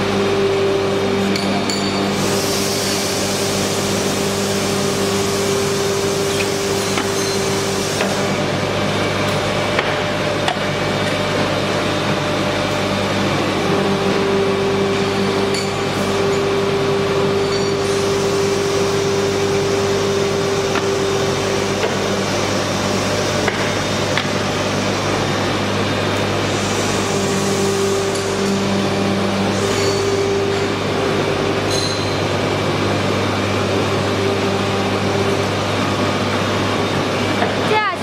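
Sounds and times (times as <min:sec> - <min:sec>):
machine humming: 0:00.0 - 0:38.0.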